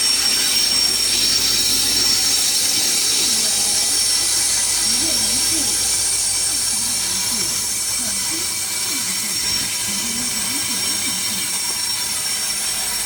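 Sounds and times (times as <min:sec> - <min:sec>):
faint thin whistling tones: 0:00.0 - 0:13.0
faint voices talking: 0:00.6 - 0:13.0.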